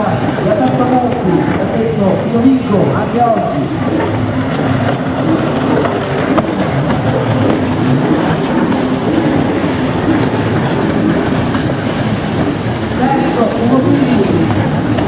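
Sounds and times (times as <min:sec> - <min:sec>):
jet ski engines droning: 0:00.0 - 0:15.0.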